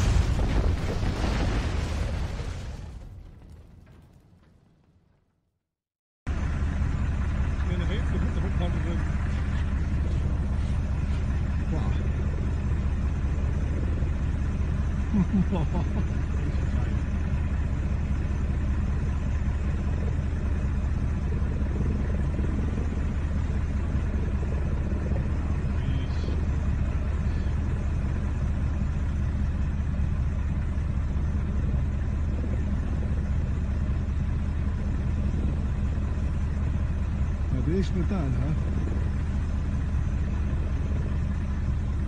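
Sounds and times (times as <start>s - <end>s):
avalanche rumbling: 0.0s - 5.4s, 6.4s - 42.0s.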